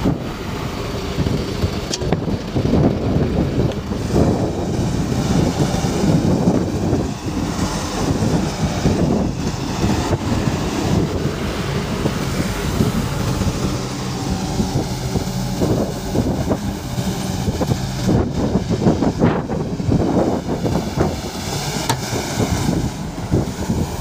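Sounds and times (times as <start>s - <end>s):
excavator diesel engine running: 0.0s - 24.0s
wind buffeting microphone: 0.0s - 24.0s.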